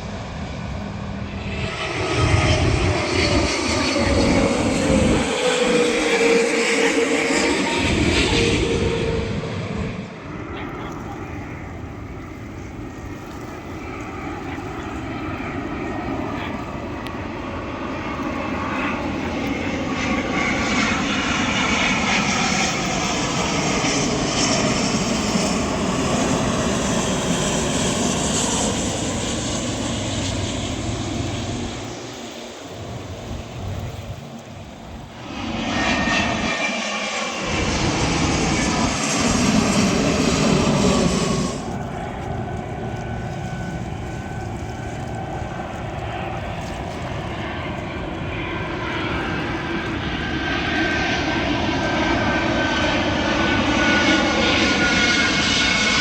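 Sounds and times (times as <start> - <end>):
jet engines roaring overhead: 0.0 - 56.0.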